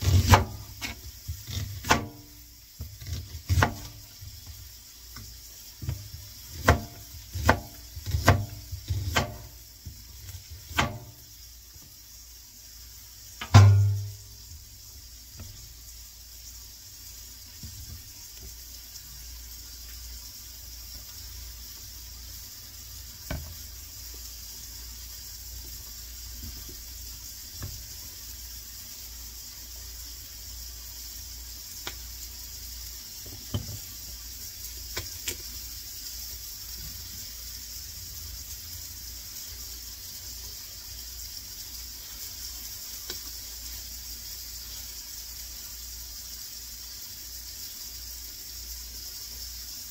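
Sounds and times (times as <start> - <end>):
steady hiss: 0.0 - 49.9.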